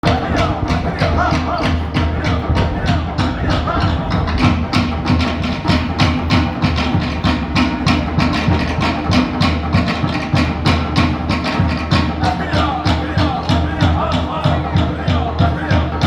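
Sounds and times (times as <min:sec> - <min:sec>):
fast dance drumming: 0:00.0 - 0:16.0.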